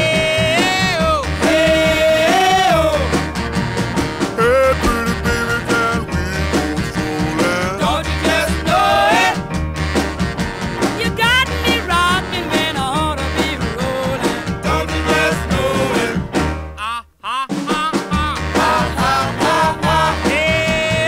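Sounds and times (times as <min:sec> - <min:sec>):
song with sung melody and beat: 0:00.0 - 0:03.5, 0:04.3 - 0:09.6, 0:10.9 - 0:21.0.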